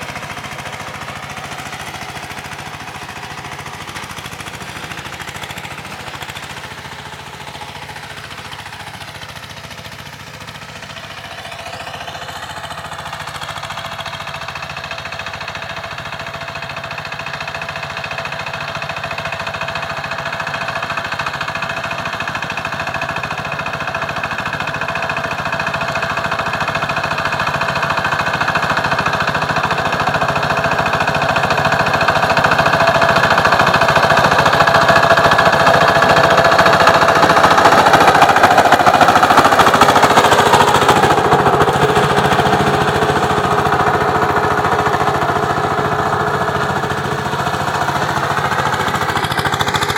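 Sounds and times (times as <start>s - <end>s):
diesel engine knocking: 0.0s - 49.9s.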